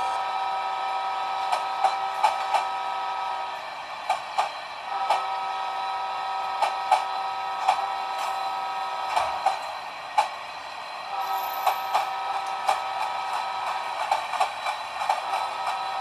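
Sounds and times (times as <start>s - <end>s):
train wheels clicking over rail joints: 1.1s - 5.5s, 6.2s - 16.0s.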